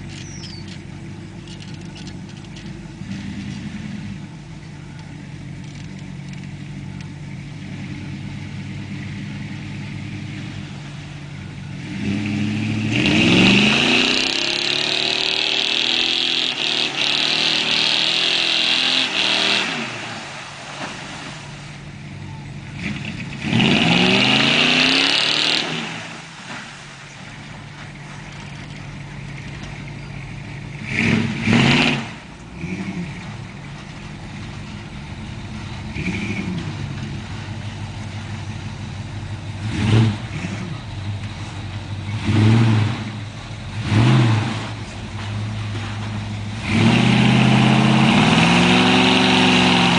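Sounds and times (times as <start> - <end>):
pickup truck engine revving: 0.0 - 49.9.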